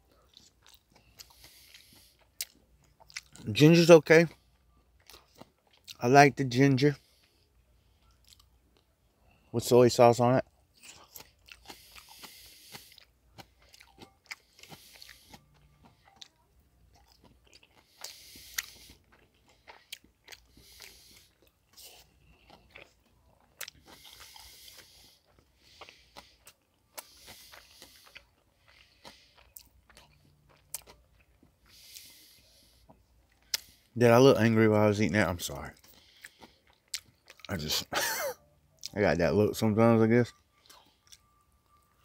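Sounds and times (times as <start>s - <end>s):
man chewing food: 0.0s - 6.0s, 6.9s - 9.5s, 10.4s - 34.0s, 35.1s - 39.0s, 39.8s - 42.0s.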